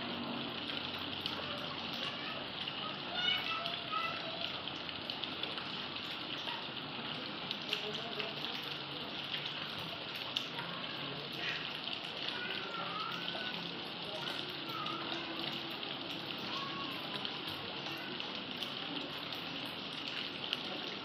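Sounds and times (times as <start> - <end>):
water splashing onto stones: 0.1 - 21.0.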